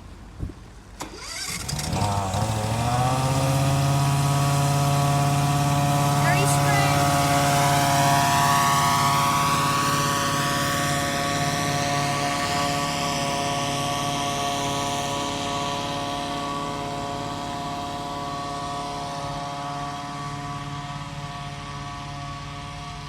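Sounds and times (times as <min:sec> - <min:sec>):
truck droning whine: 0:01.0 - 0:23.0.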